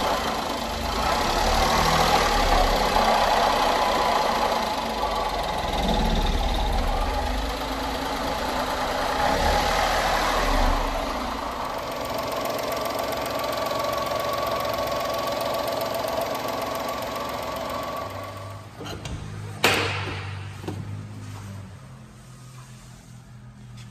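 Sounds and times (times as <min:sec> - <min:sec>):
small truck engine running: 0:00.0 - 0:22.0.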